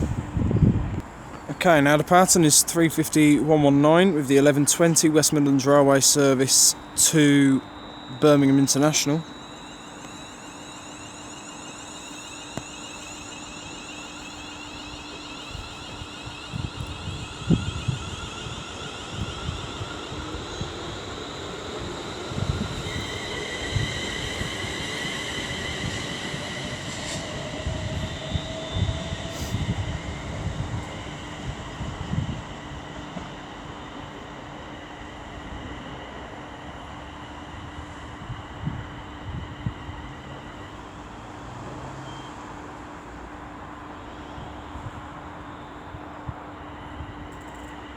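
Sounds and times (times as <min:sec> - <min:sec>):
electric train traction whine: 0:00.0 - 0:47.9.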